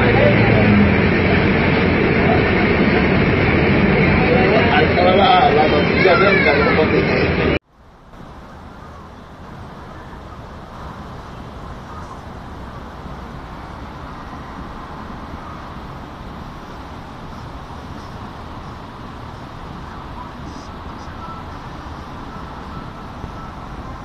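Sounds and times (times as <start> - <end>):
floodwater rushing: 0.0 - 24.0
road traffic: 0.0 - 24.0.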